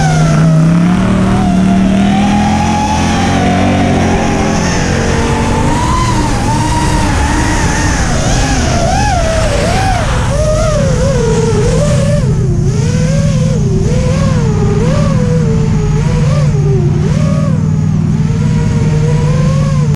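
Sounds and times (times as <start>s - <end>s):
low hum of car engines: 0.0s - 19.9s
quadcopter motors whining: 0.0s - 19.9s.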